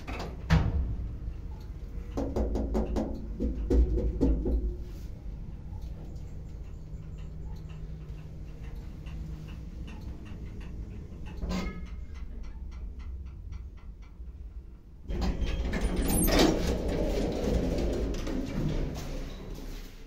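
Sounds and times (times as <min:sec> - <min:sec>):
elevator doors opening: 0:00.0 - 0:20.0
elevator humming: 0:00.0 - 0:20.0.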